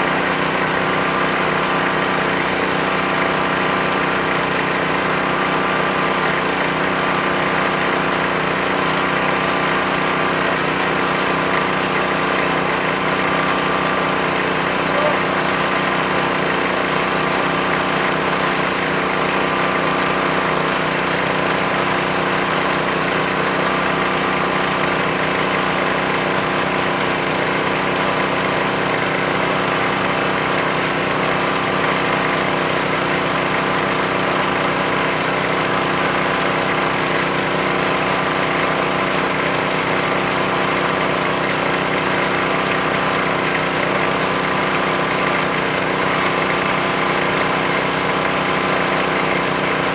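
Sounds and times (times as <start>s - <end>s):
drilling machine engine running: 0.0s - 49.9s.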